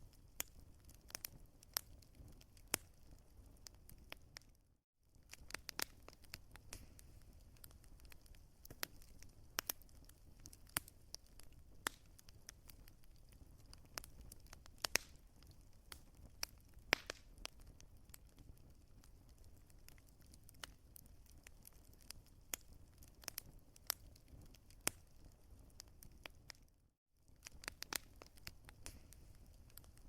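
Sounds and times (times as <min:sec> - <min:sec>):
fireplace wood crackling: 0:05.1 - 0:26.6, 0:27.3 - 0:30.0.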